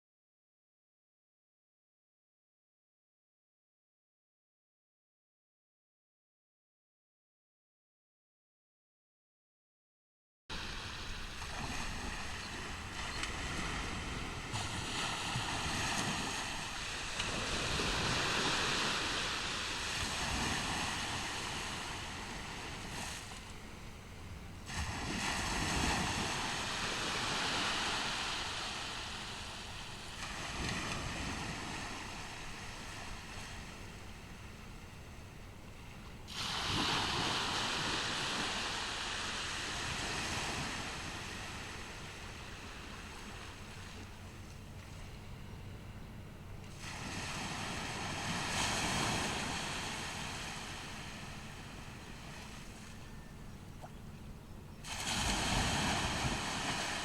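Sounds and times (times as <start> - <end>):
ocean waves on a beach: 10.5 - 57.0.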